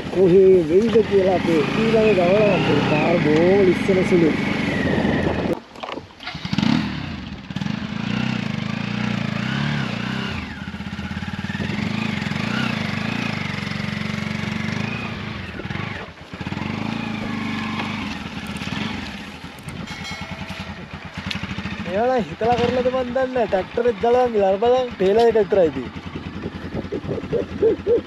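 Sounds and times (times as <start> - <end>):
motorcycle engine revving: 0.0 - 5.6, 6.2 - 28.0.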